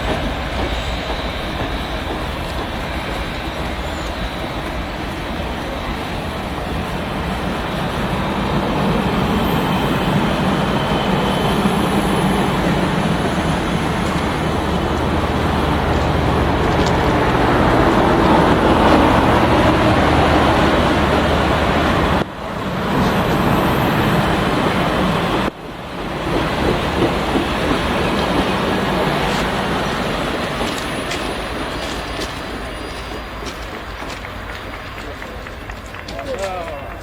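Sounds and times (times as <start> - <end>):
train cars rumbling past: 0.0 - 37.0.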